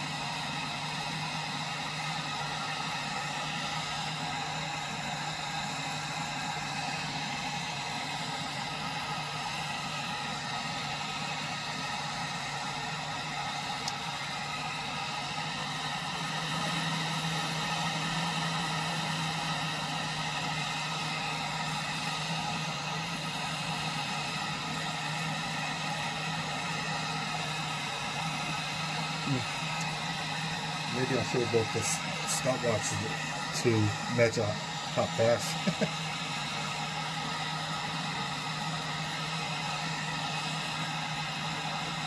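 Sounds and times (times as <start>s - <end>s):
gas stove burner roaring hiss: 0.0s - 42.0s.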